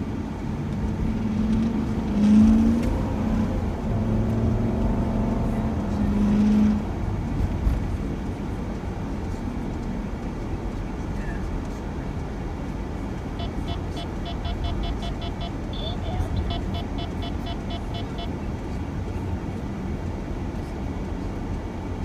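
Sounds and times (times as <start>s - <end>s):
van engine and road noise: 0.0s - 22.0s.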